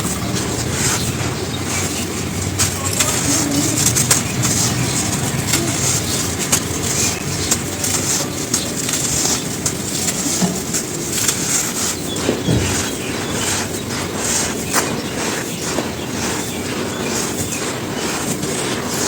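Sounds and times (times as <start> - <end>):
charcoal ash crunching: 0.0 - 19.0.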